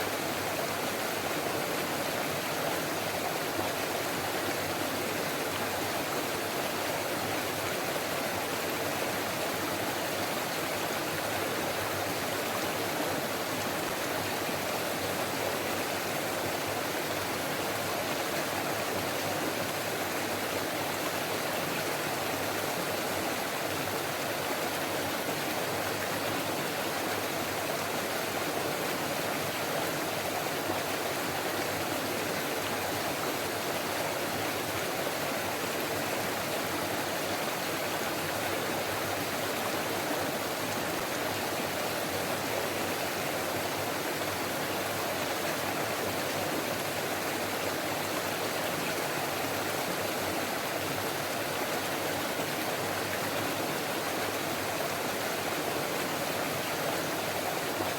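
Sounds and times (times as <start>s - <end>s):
stream babbling over rocks: 0.0s - 57.9s.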